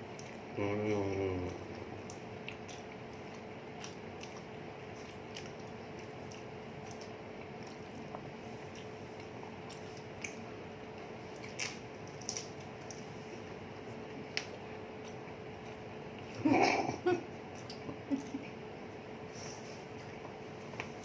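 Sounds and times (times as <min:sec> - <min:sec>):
wet chewing sounds: 0:00.0 - 0:16.4, 0:17.4 - 0:18.4
faint steady hum: 0:00.0 - 0:21.0.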